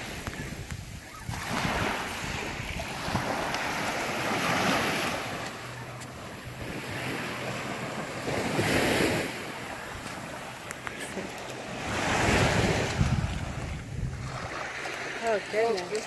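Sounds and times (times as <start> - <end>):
wind rumbling on microphone: 0.0 - 15.4
waves washing against jetty: 0.0 - 16.0.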